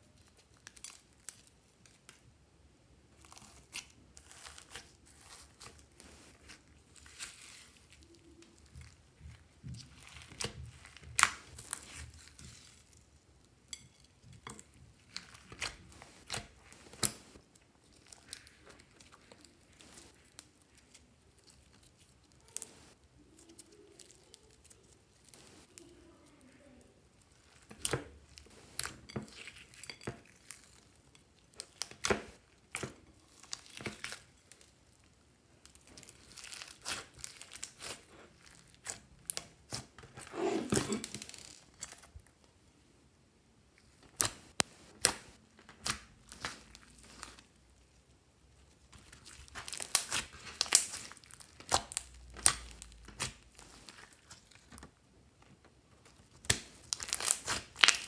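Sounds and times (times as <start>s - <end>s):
hands squishing slime: 3.1s - 34.9s, 35.6s - 42.2s, 43.8s - 48.0s, 48.6s - 55.0s, 55.9s - 58.0s.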